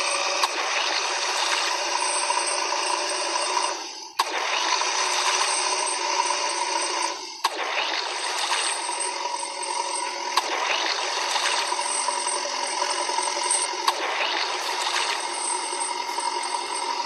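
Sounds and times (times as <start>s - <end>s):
rattle: 0.0s - 17.0s
small gear motors whirring: 0.0s - 17.0s.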